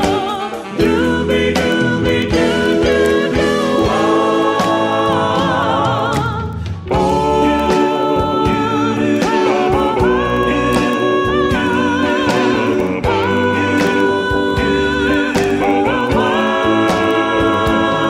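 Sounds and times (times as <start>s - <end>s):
song with singer over beat: 0.0s - 18.0s.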